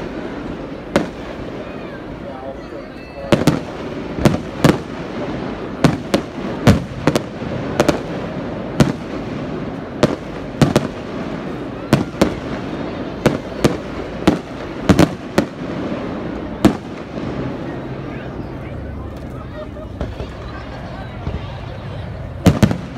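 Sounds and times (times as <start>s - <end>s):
continuous background noise: 0.0s - 22.9s
fireworks bursting with sharp bangs: 0.0s - 22.9s.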